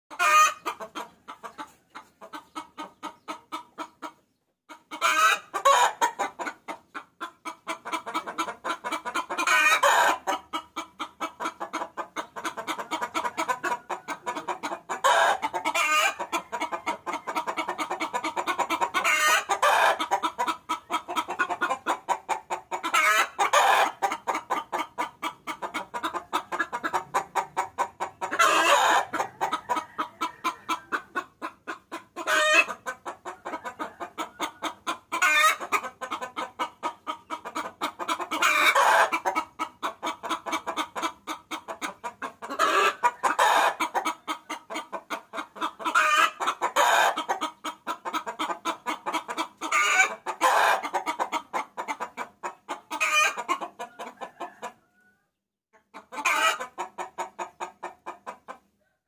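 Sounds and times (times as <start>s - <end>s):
hen cackling: 0.1s - 55.0s, 55.9s - 58.6s.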